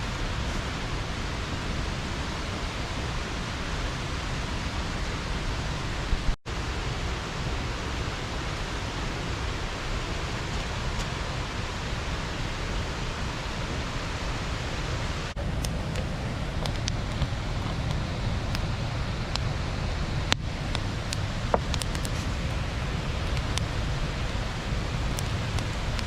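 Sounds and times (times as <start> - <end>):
water rushing over a dam: 0.0 - 26.0.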